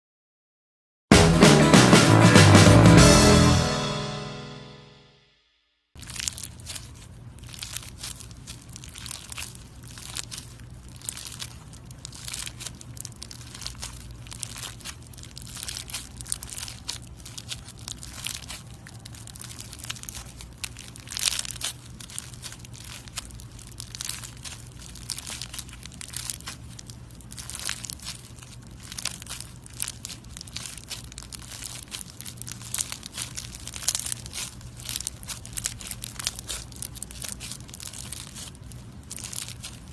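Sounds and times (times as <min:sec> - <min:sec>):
slime squeezed by hand: 0:06.0 - 0:39.9.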